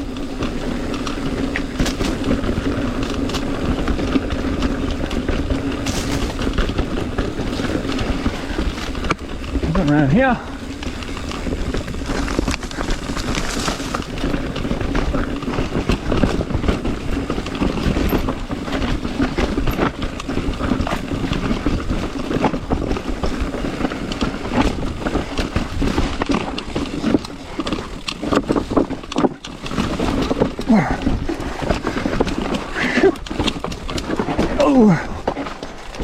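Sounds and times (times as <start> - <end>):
bike rattling over rocks: 0.0 - 36.0
wind noise on microphone: 0.0 - 36.0.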